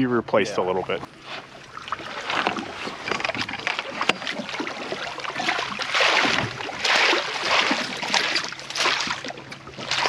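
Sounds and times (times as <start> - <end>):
fish splashing in water: 1.5 - 10.0.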